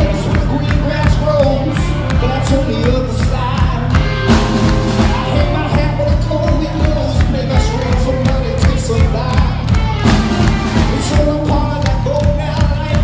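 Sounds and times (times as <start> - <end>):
rock band playing live: 0.0 - 13.0
steady drum beat: 0.0 - 13.0.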